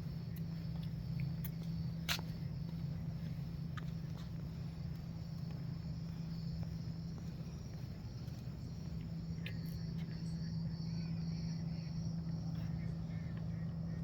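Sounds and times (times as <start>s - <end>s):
constant low hum: 0.0s - 14.0s
insects chirping: 0.0s - 14.0s.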